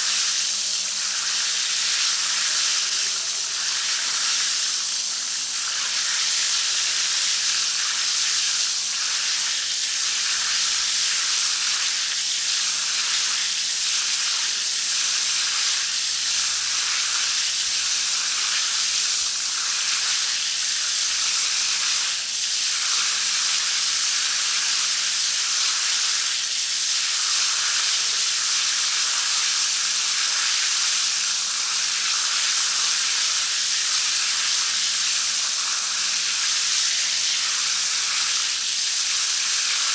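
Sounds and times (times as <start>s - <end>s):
shower head spraying water: 0.0s - 39.9s.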